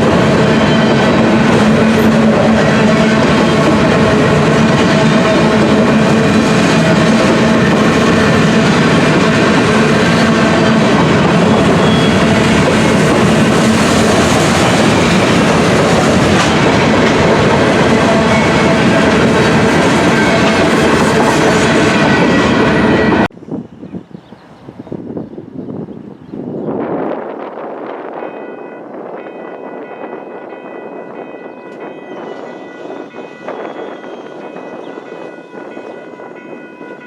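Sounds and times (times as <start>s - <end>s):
freight train wheels on rails: 0.0s - 23.4s, 25.0s - 37.0s.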